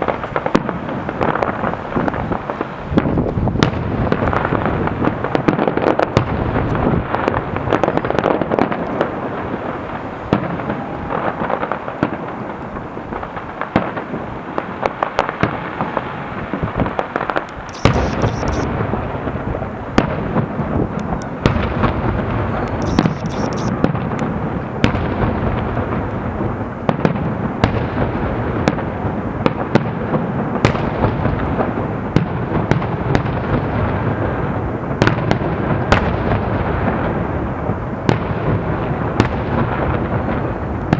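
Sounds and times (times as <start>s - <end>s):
fireworks bursts and crackle: 0.0s - 40.9s.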